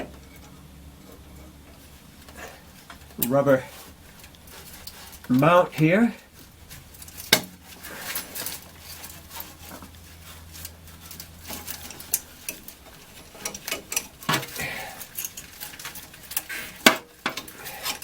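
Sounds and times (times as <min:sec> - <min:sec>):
metal tool clinking on exhaust pipe: 0:00.0 - 0:18.0.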